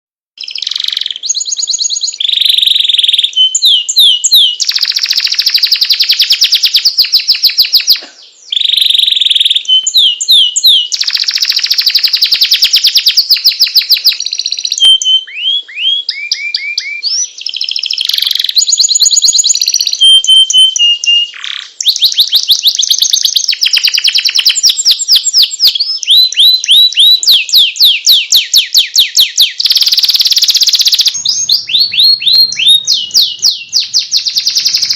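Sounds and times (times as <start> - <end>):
canary singing trills: 0.4 - 34.9.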